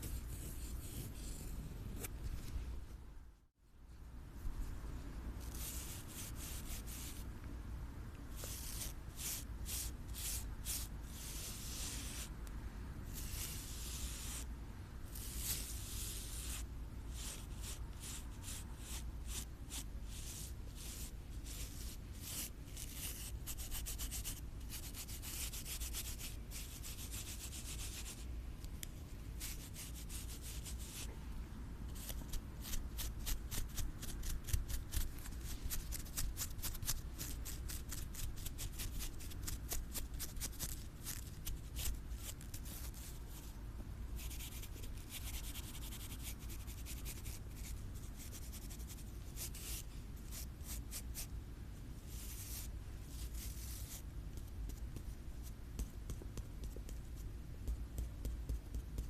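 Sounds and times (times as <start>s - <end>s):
scratching and rubbing on surface: 0.0s - 2.6s, 5.4s - 7.3s, 8.3s - 12.4s, 13.1s - 14.5s, 15.1s - 28.2s, 29.4s - 31.1s, 31.9s - 43.5s, 44.2s - 51.3s, 52.1s - 59.0s.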